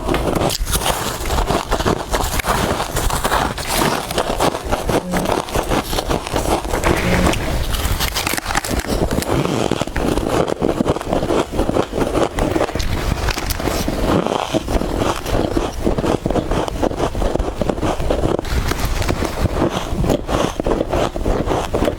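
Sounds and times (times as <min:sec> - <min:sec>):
frost crunching when chewed: 0:00.0 - 0:21.9.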